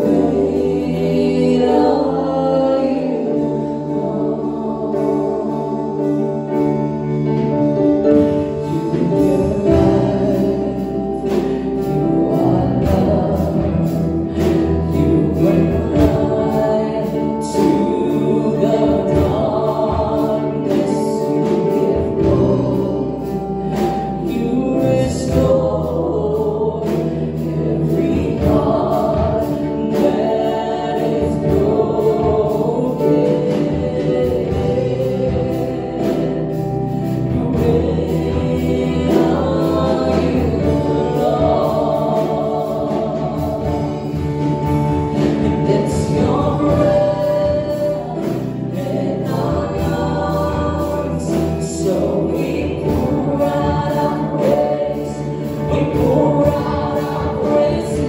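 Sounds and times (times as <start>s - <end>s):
electric guitar: 0.0s - 58.0s
keyboard: 0.0s - 58.0s
singers on microphones: 0.0s - 58.0s.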